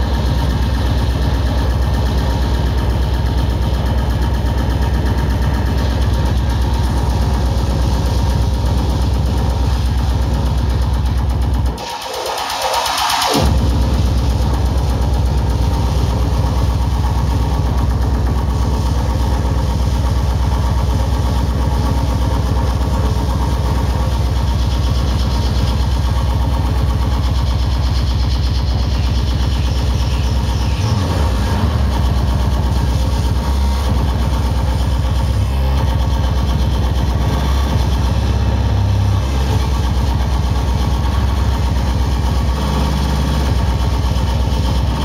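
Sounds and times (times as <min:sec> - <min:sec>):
distorted electronic noise music: 0:00.0 - 0:45.0.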